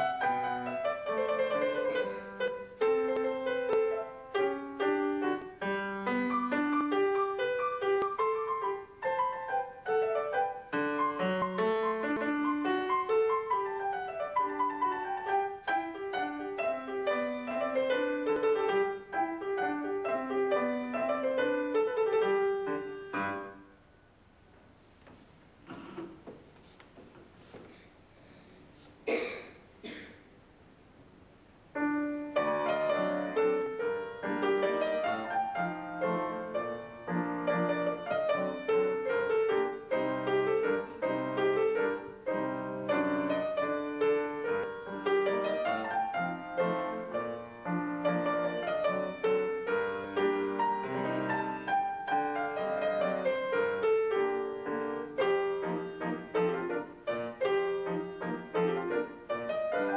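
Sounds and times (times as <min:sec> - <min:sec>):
solo piano piece: 0:00.0 - 0:24.8, 0:31.0 - 0:59.9.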